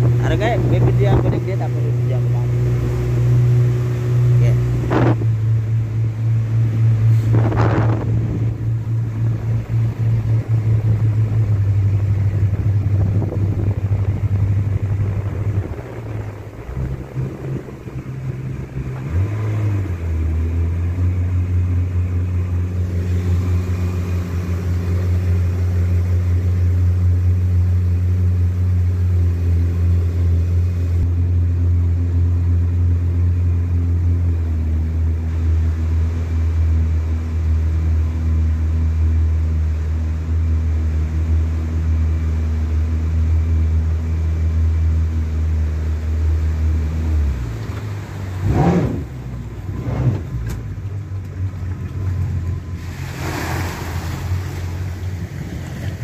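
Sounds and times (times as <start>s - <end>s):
boat engines droning: 0.0s - 56.0s.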